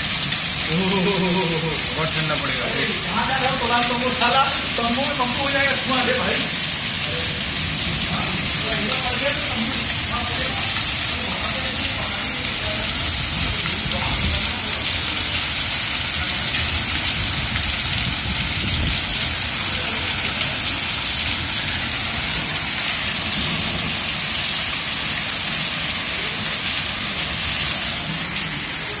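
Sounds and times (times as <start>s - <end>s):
hail and rain on tiled paving: 0.0s - 29.0s.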